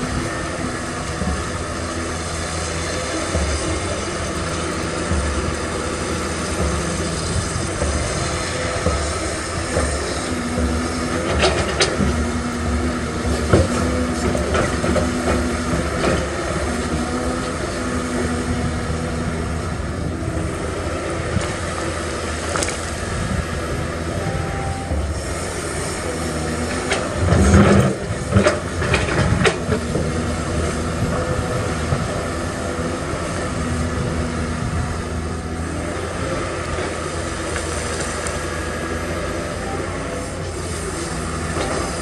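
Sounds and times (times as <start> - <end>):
excavator diesel engine running: 0.0 - 42.0
hydraulics hum: 0.0 - 42.0.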